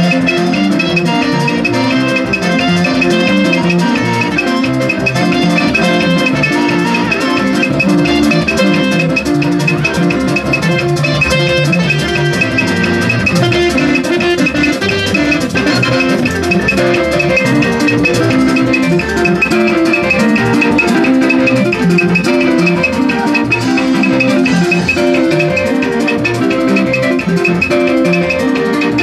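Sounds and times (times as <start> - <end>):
plucked ringing notes: 0.0 - 29.0
steady beat: 0.0 - 29.0.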